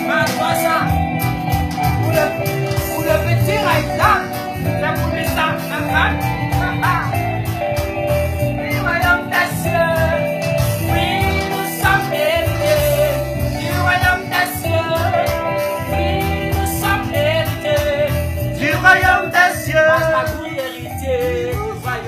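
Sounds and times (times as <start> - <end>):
reggae song with vocals: 0.0 - 22.0.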